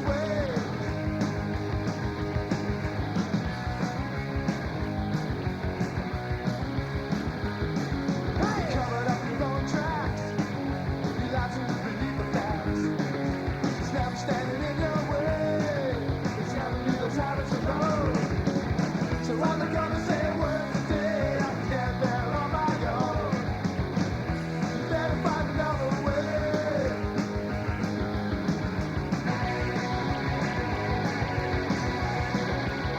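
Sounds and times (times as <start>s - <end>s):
rock music: 0.0s - 32.9s.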